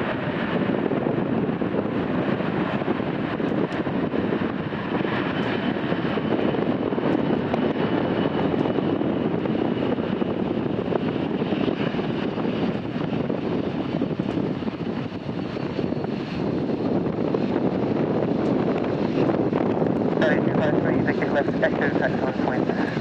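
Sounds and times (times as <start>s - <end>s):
jet engines landing: 0.0s - 23.0s.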